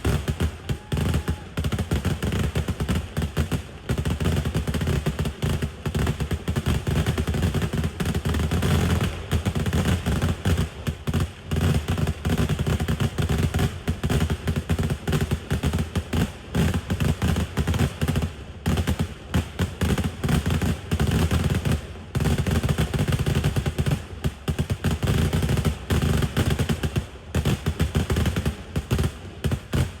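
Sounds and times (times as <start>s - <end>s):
rapid firecracker explosions: 0.0s - 30.0s.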